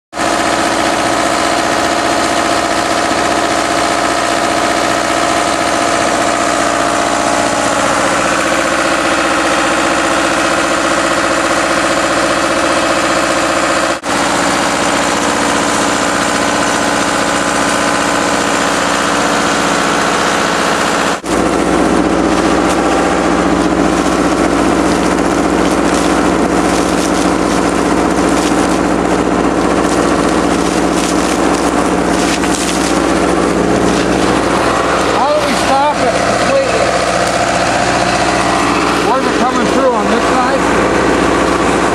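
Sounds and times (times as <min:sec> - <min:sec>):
pump engine running: 0:00.1 - 0:41.9.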